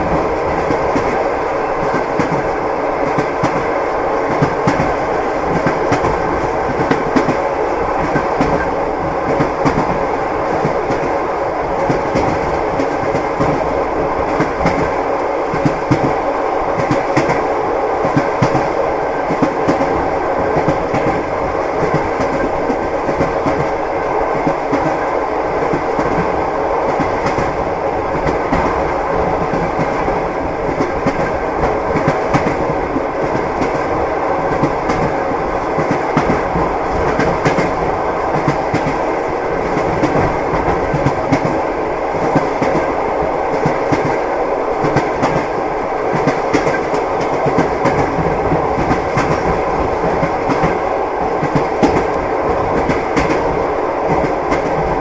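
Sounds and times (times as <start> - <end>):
train rolling rumble: 0.0 - 55.0
train wheels clacking: 0.0 - 55.0.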